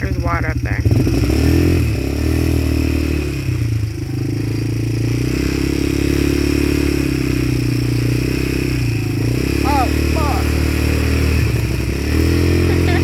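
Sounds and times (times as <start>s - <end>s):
vehicle engine driving through mud: 0.0s - 13.0s.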